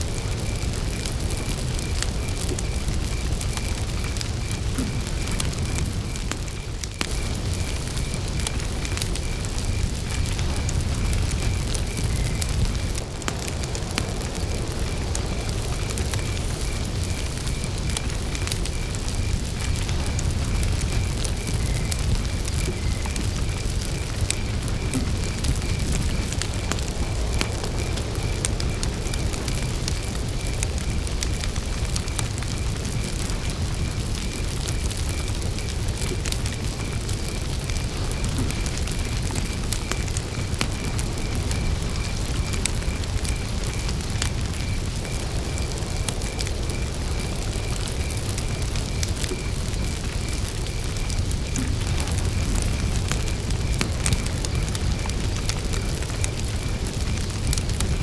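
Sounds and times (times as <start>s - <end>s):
burning wood crackling and popping: 0.0s - 58.0s
cricket chirping: 0.0s - 58.0s
low rumble of flames: 0.0s - 58.0s.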